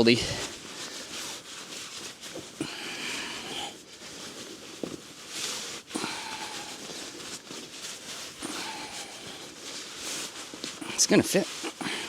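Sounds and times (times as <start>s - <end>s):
tent fabric rustling: 0.0s - 12.0s.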